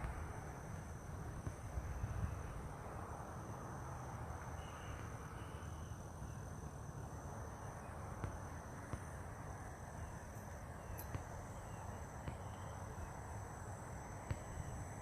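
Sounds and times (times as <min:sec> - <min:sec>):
faint high whine: 0:00.0 - 0:15.0
high-pitched insect drone: 0:00.0 - 0:15.0
low outdoor rumble: 0:00.0 - 0:15.0.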